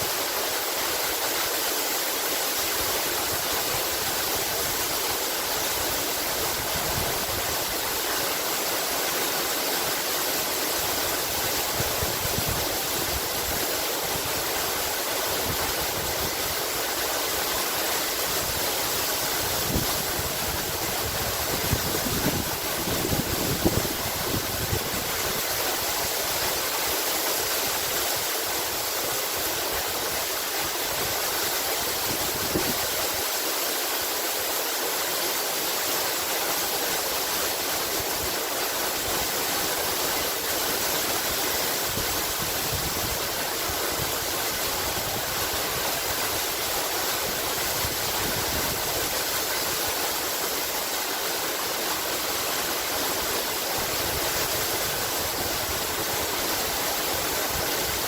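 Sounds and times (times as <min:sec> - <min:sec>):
waterfall rushing and splashing: 0:00.0 - 0:58.0.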